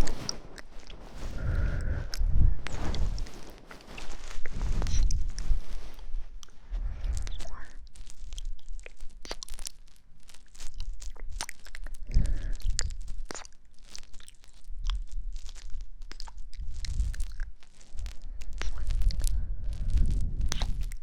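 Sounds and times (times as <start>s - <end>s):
crackly scratches and clicks: 0.0s - 21.0s.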